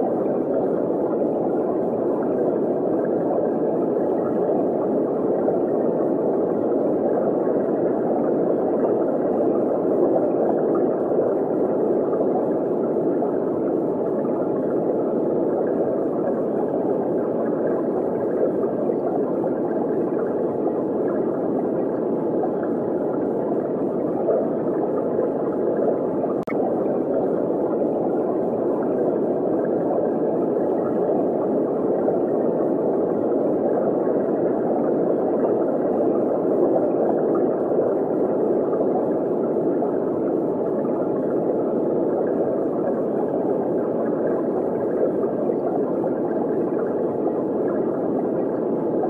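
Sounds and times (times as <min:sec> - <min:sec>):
muffled underwater water noise: 0:00.0 - 0:49.0.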